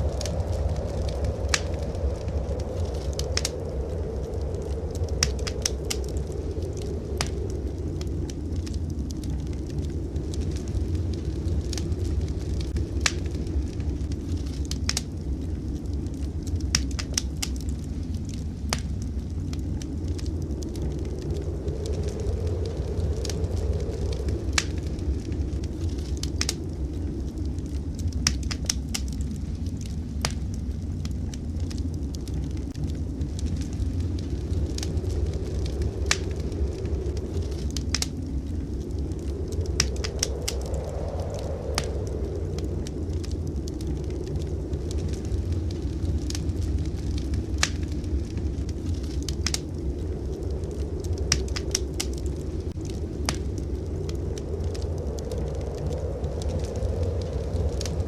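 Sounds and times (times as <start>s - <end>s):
blizzard wind rumble: 0.0s - 58.0s
wood fire crackling: 0.0s - 58.0s.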